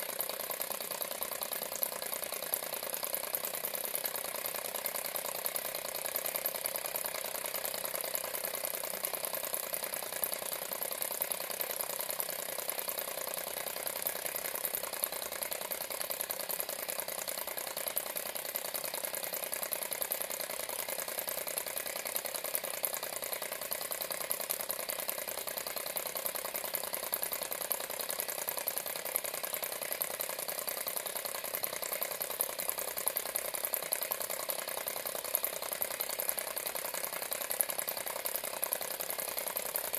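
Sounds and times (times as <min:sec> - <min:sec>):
model engine ticking clatter: 0:00.0 - 0:39.9.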